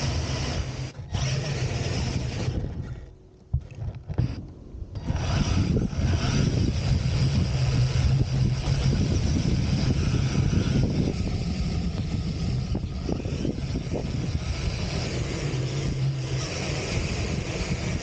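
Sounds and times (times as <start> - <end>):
rc car motor running: 0.0 - 4.4, 5.0 - 18.0.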